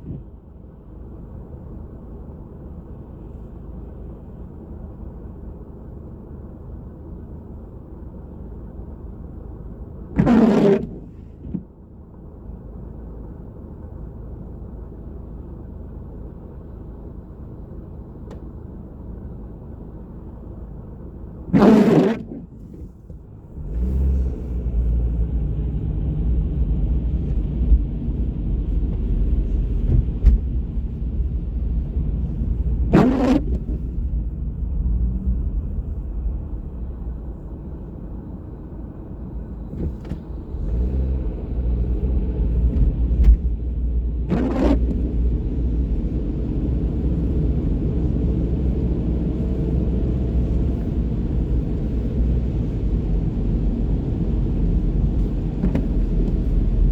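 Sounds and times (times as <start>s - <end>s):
car rumbling on road: 0.0s - 56.9s.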